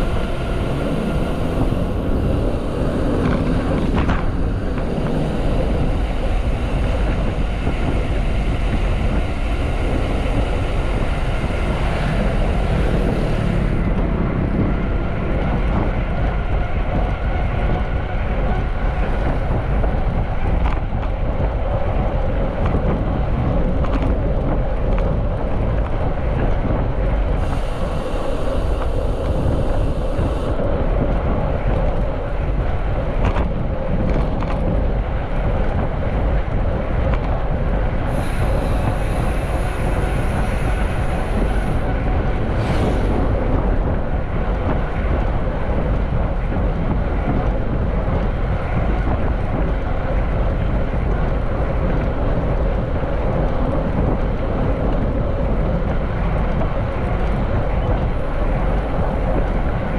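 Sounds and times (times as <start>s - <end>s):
bike tyres rolling: 0.0s - 59.9s
wind rushing over microphone: 0.0s - 59.9s.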